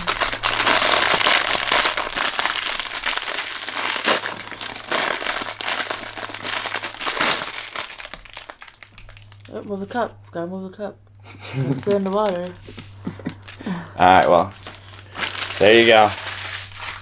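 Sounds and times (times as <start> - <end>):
plastic wrapper crinkling: 0.0 - 10.4, 11.6 - 17.0.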